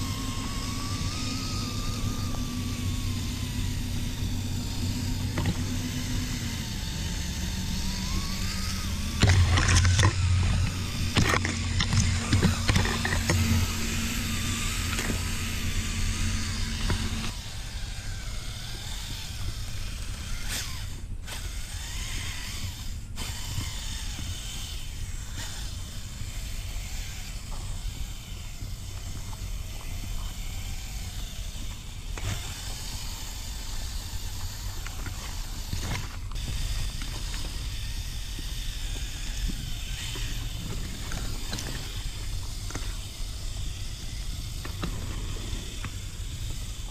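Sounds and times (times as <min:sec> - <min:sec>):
electric motor and drivetrain whining: 0:00.0 - 0:46.9
low steady hum: 0:00.0 - 0:46.9.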